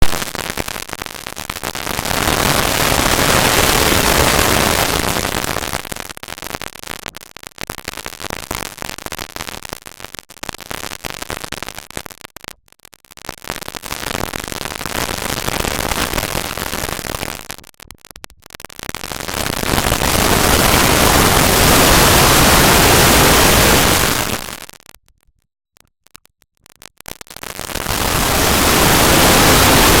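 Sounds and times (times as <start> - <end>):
harsh static noise: 0.0 - 25.1, 25.9 - 30.0.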